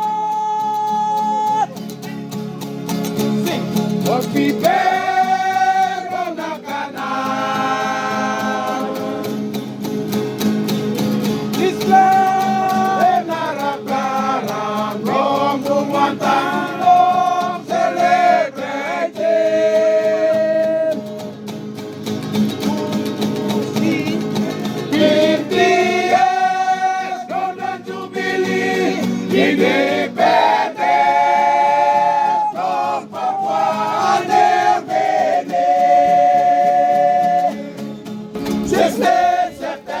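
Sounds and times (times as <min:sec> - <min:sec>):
strummed acoustic guitars: 0:00.0 - 0:40.0
voices singing together: 0:04.1 - 0:09.7, 0:11.6 - 0:21.5, 0:22.6 - 0:40.0.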